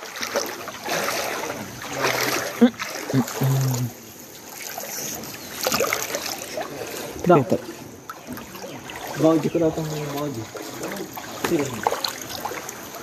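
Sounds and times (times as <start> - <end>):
floodwater sloshing and splashing: 0.0 - 13.0.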